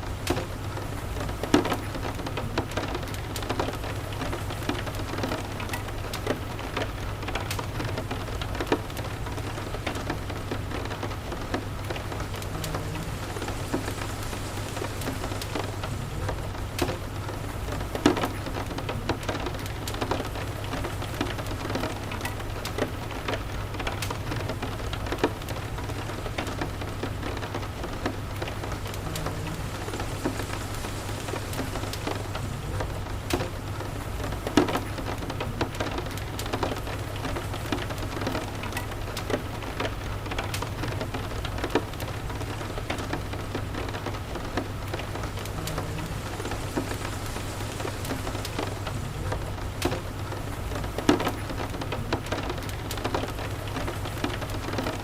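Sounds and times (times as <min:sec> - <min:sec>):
rain falling on a house: 0:00.0 - 0:55.0
wood fire crackling: 0:00.0 - 0:55.0.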